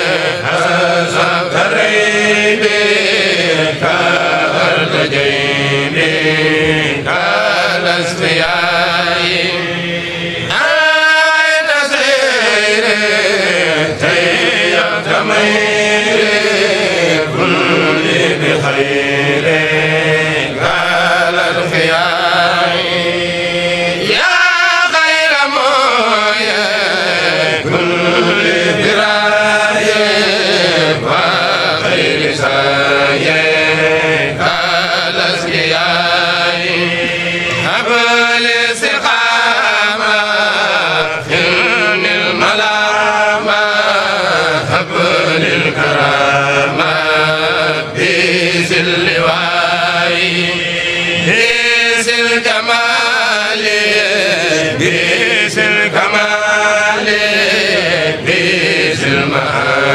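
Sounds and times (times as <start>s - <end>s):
group chanting devotional poem: 0.0s - 59.9s.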